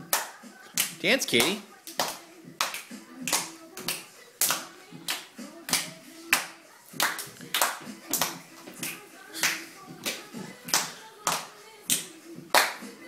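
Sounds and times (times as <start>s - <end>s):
hand clapping in rhythm: 0.0s - 13.0s.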